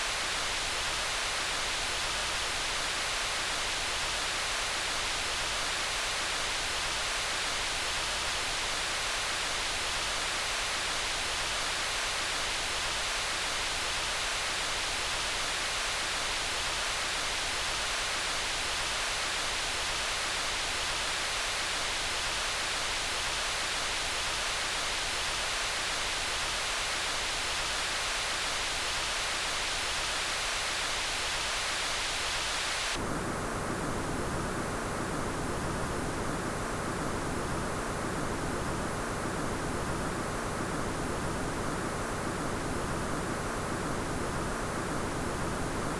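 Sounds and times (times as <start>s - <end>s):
static noise hiss: 0.0s - 45.9s.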